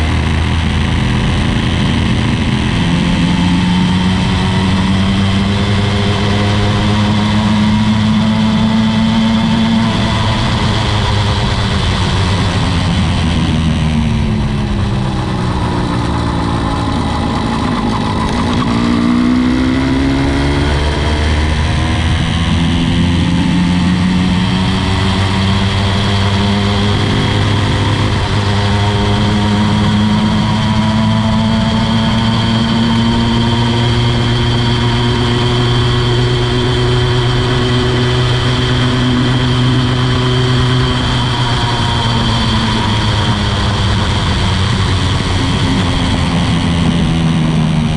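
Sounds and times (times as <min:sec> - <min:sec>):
two-stroke engine running: 0:00.0 - 0:47.9.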